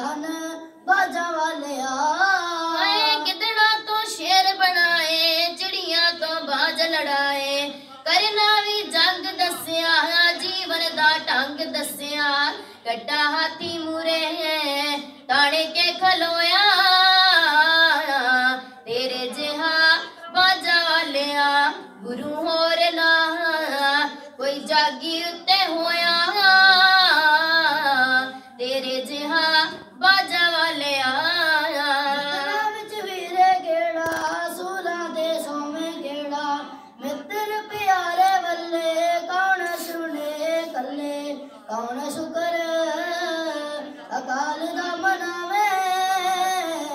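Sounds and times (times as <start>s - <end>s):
girl singing unaccompanied: 0.0s - 46.9s.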